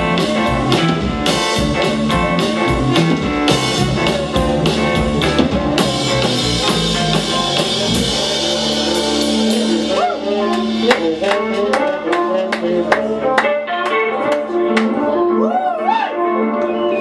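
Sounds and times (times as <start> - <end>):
drum kit: 0.0 - 15.0
electric guitar: 0.0 - 17.0
keyboard: 0.0 - 17.0.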